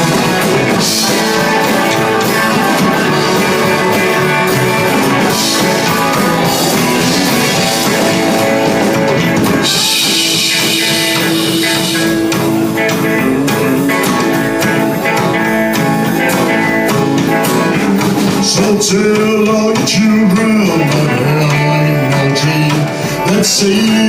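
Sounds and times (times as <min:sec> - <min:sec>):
live band playing country-rock: 0:00.0 - 0:24.0.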